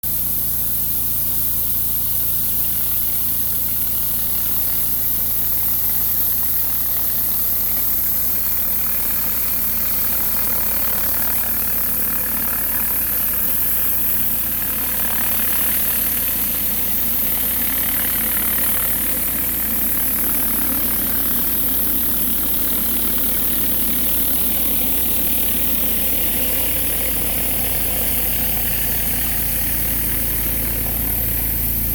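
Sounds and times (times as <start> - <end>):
pressure washer engine hum: 0.0 - 31.9
water spray hissing on pavement: 0.1 - 31.9.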